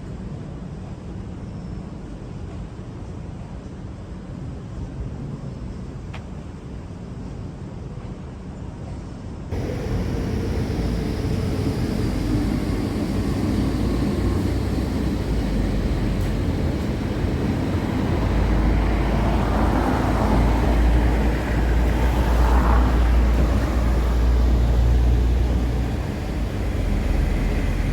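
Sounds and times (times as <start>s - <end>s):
metro train rumble and rail noise: 0.0s - 27.9s.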